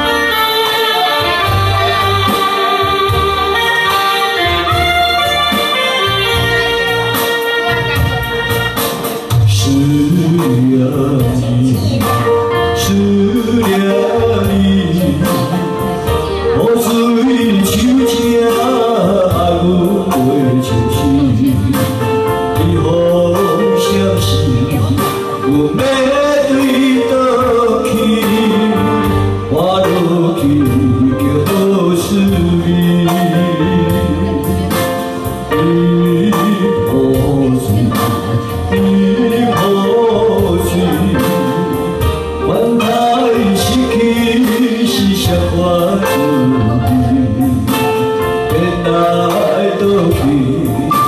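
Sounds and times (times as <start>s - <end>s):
electronic keyboard: 0.0s - 51.0s
man singing into microphone: 0.0s - 51.0s
steady rhythm beat: 0.0s - 51.0s.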